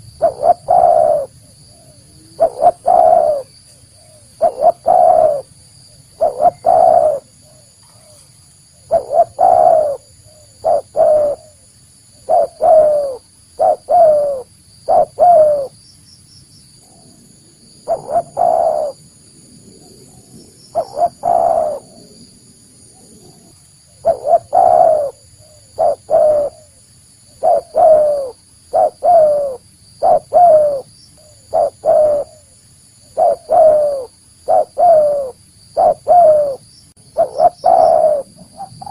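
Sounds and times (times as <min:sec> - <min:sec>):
dove cooing: 0:00.0 - 0:15.8, 0:17.8 - 0:19.1, 0:19.8 - 0:22.3, 0:22.9 - 0:38.9.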